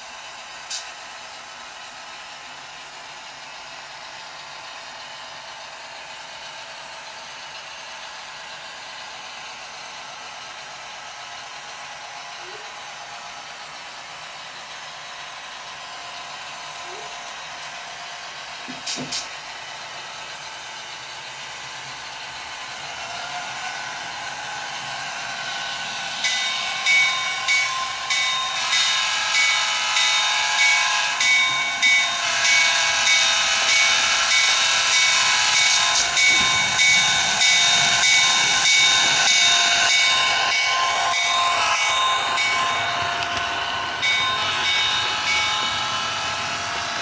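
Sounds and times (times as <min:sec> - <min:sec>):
model train running: 0:00.0 - 0:47.0.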